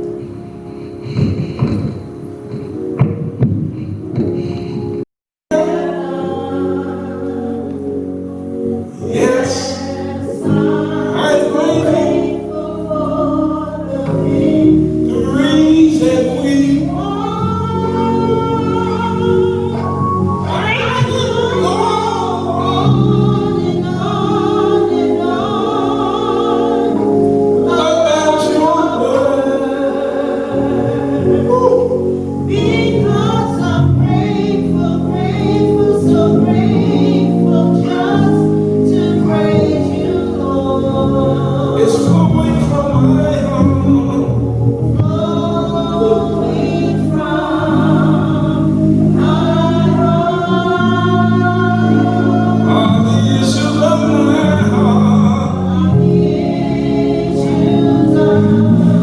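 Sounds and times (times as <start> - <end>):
gospel choir singing: 0.0 - 59.0
keyboard chords: 0.0 - 59.0.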